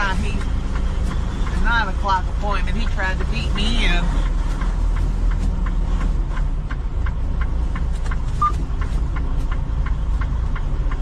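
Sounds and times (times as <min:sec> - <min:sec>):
diesel truck engine rumbling: 0:00.0 - 0:11.0
light regular ticking: 0:00.0 - 0:11.0.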